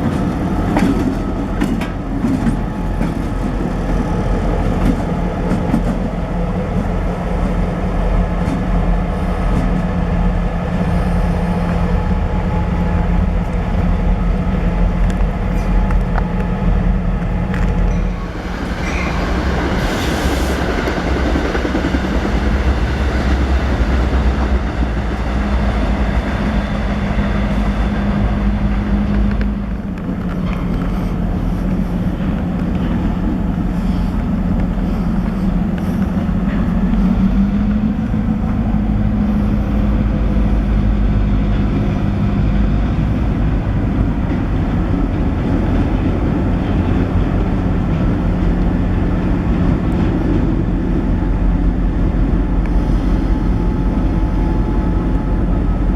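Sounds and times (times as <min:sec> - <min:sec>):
diesel locomotive engine humming: 0:00.0 - 0:55.9.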